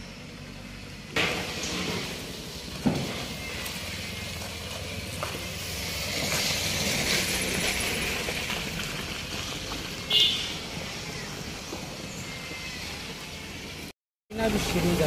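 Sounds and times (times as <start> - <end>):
motorcycles running: 0.0 - 15.0
suv engine and tyre noise: 0.0 - 15.0.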